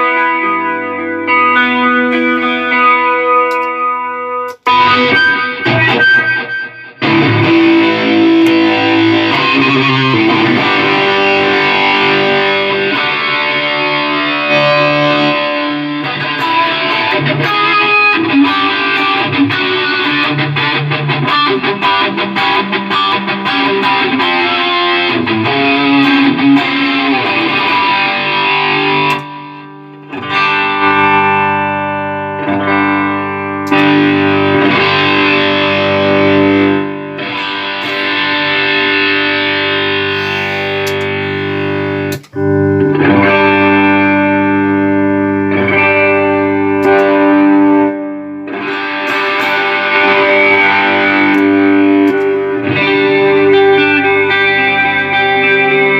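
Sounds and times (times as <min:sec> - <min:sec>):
electric guitar riffing and chords: 0:00.0 - 0:55.9.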